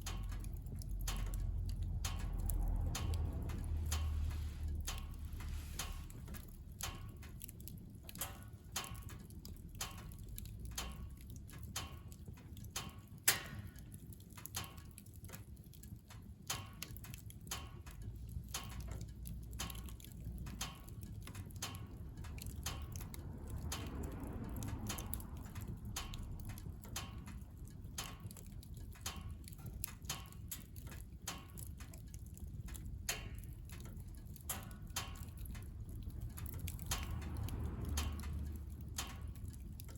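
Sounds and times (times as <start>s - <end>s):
firewood crackling in stove: 0.0s - 39.9s.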